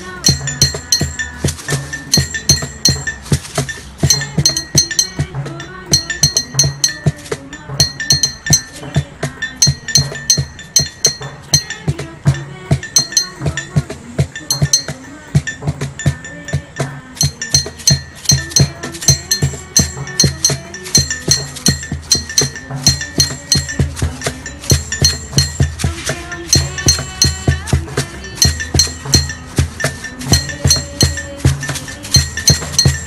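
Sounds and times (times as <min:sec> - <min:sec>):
glass bottles struck with sticks: 0:00.0 - 0:33.0.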